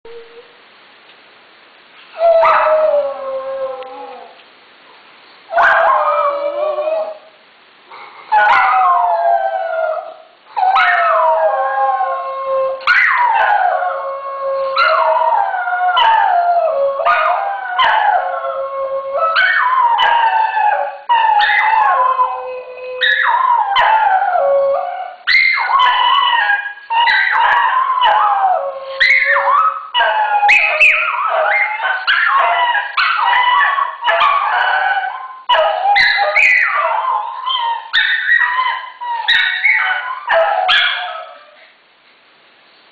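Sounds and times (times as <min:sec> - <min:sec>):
dogs howling: 0:05.6 - 0:07.2, 0:08.3 - 0:41.6.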